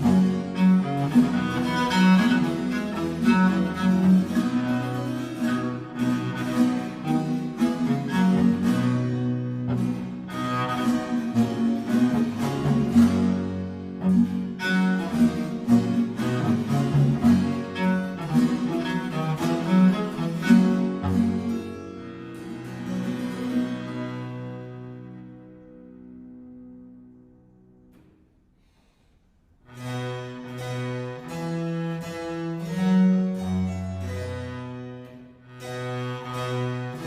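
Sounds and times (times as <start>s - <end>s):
solo cello: 0.0s - 27.1s, 29.6s - 37.0s
string accompaniment: 0.0s - 28.8s, 29.5s - 37.0s.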